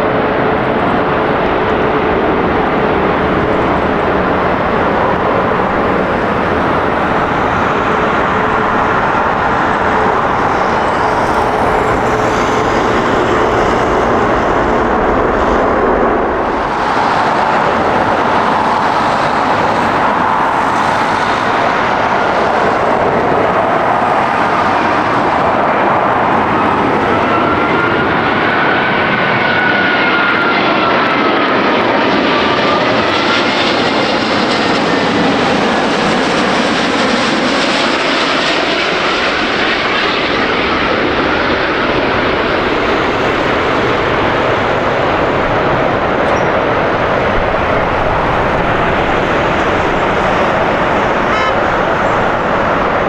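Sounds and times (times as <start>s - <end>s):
jet engines running loud: 0.0s - 53.0s
thin engine whine: 0.0s - 53.0s.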